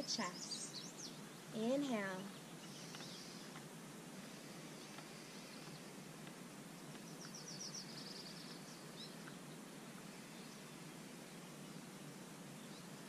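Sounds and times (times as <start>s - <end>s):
small bird singing: 0.0s - 6.0s, 6.6s - 13.0s
faint outdoor background noise: 0.0s - 13.0s.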